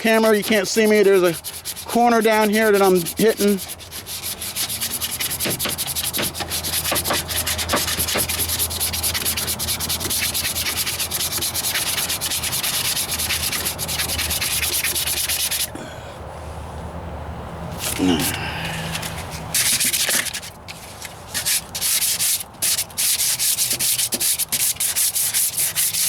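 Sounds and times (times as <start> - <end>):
sandpaper scratching on filler: 0.0 - 15.7, 18.9 - 26.0.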